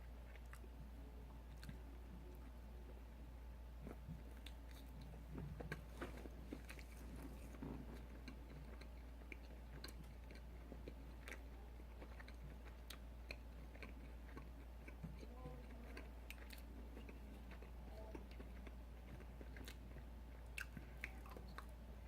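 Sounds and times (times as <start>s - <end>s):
steady low hum: 0.0s - 22.0s
chewing fried chicken: 0.1s - 3.1s, 3.8s - 22.0s.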